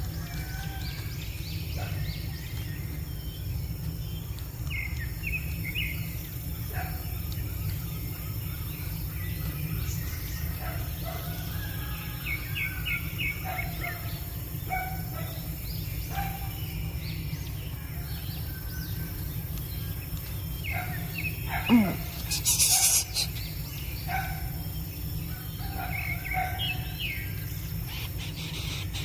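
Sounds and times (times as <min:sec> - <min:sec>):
birds chirping: 0:00.0 - 0:29.0
steady low rumble: 0:00.0 - 0:29.0.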